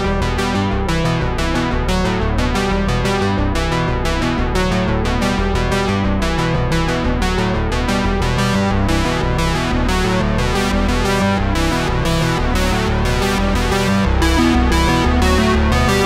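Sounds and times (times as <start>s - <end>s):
background music with quick notes: 0.0s - 16.0s.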